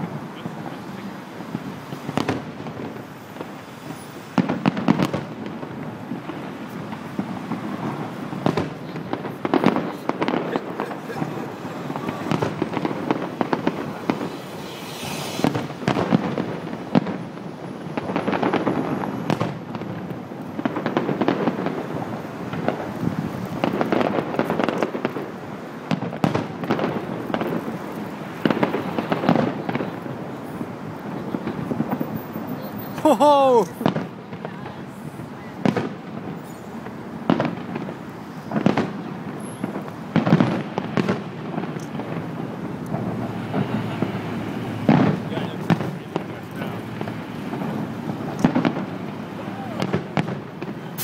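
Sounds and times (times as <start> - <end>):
firework crackling: 0.0 - 51.0
firework shells booming: 1.4 - 33.0, 33.6 - 34.6, 35.6 - 51.0.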